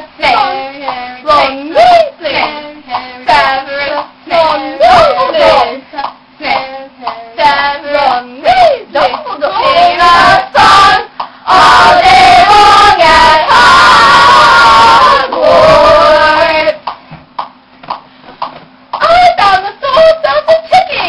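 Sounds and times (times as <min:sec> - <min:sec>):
young voices singing together: 0:00.0 - 0:16.9.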